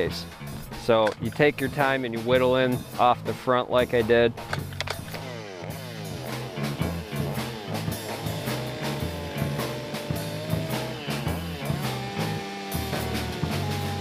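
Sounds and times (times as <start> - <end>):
rock music: 0.0 - 14.0.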